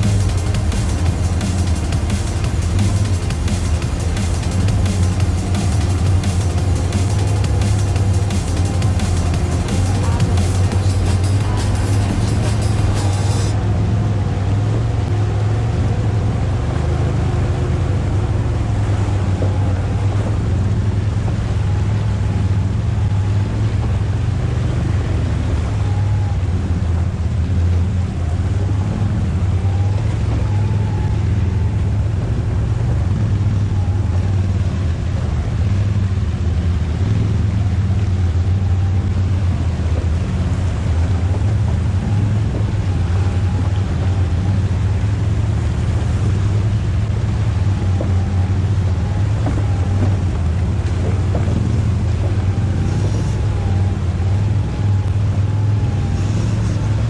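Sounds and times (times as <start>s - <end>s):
atv engine running: 0.0s - 57.0s
rushing noise: 0.0s - 57.0s.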